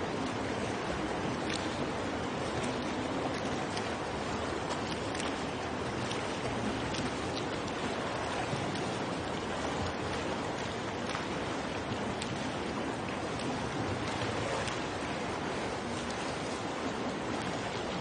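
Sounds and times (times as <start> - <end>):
small water splashes: 0.0 - 18.0
swimmers splashing in a pool: 0.0 - 18.0.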